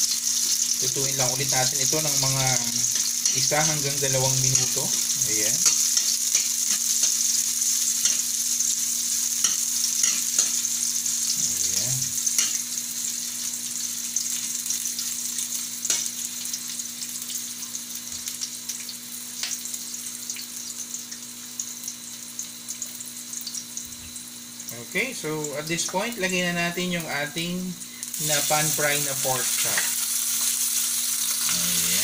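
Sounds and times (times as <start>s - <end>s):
garlic and onion sizzling in oil: 0.0s - 32.0s.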